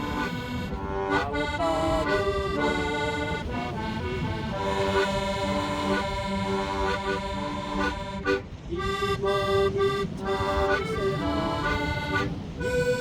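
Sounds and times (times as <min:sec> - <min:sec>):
accordion playing trot melody: 0:00.0 - 0:13.0.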